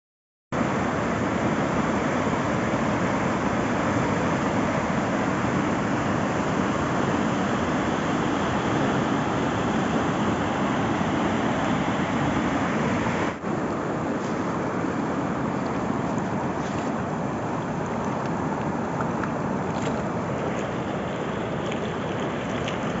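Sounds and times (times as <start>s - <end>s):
river water rushing: 0.6s - 23.0s.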